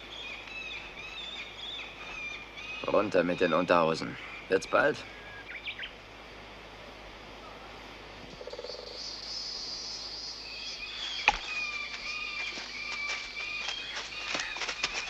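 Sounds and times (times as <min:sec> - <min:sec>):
birds calling: 0:00.0 - 0:06.0, 0:07.4 - 0:15.0
high insect drone: 0:00.0 - 0:15.0.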